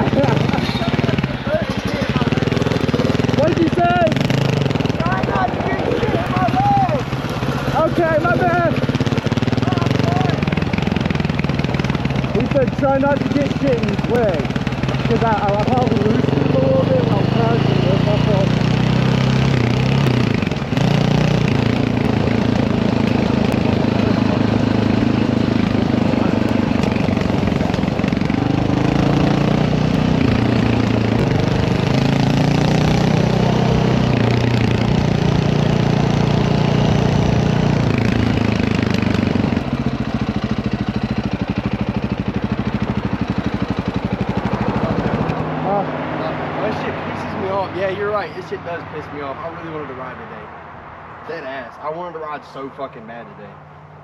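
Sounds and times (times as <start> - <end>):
dirt bike engine revving and idling: 0.0 - 50.1.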